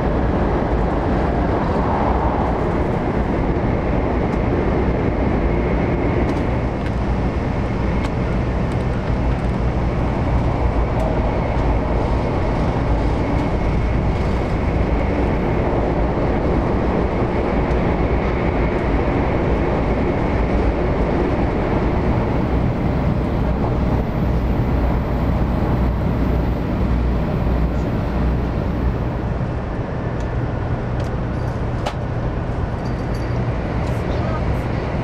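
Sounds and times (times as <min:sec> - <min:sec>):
train rumbling inside cabin: 0:00.0 - 0:35.0.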